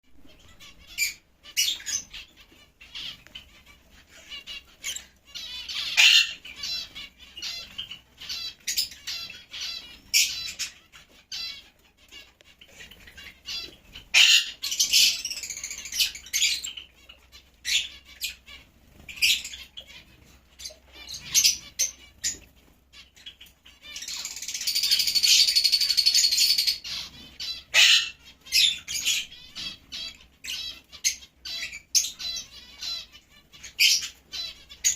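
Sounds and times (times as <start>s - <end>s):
lovebirds chirping and squawking: 0.0s - 34.9s.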